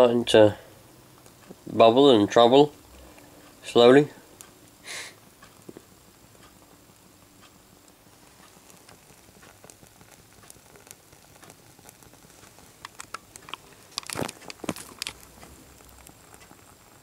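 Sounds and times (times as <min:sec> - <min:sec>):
faint ticking and crackling: 0:00.0 - 0:17.0.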